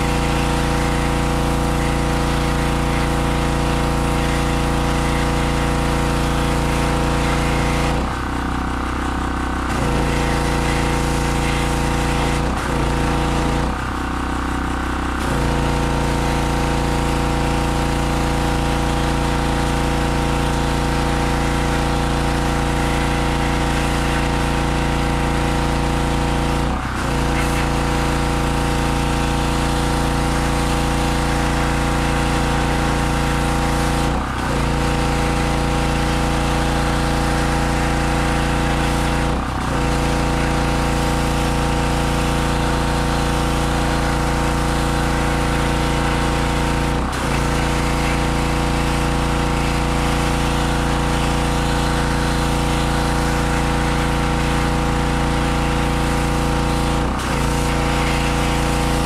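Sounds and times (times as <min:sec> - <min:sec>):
pressure washer engine running: 0:00.0 - 0:59.0.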